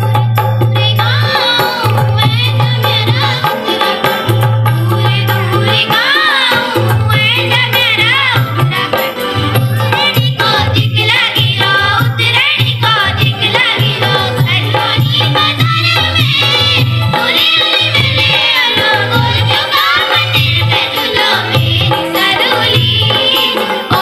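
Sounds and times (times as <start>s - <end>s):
hand drum percussion: 0.0s - 24.0s
folk singing over a pa: 0.7s - 24.0s.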